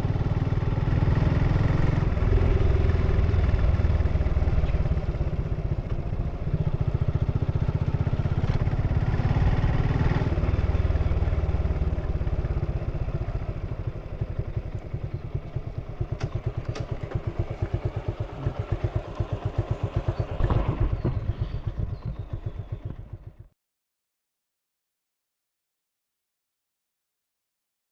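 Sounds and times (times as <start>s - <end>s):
motorcycle engine idling and revving: 0.0s - 23.6s.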